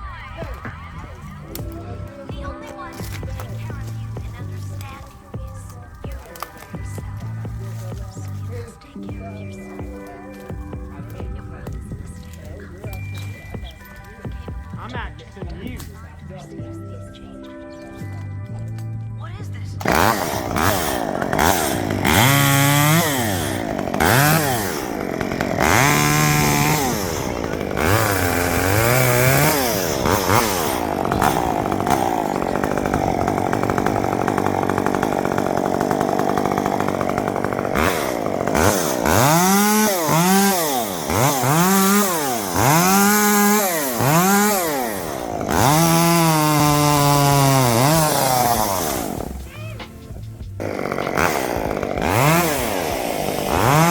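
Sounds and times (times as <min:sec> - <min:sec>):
chainsaw revving: 0:00.0 - 0:53.9.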